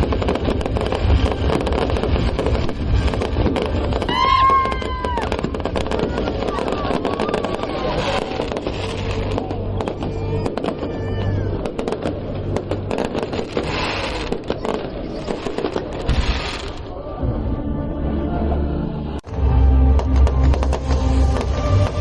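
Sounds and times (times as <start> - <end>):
fireworks banging and crackling: 0.0 - 17.0, 19.2 - 22.0.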